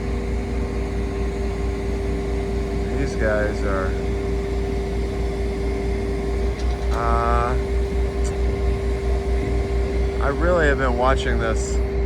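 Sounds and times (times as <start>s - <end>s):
crane engine whine and rumble: 0.0s - 12.0s.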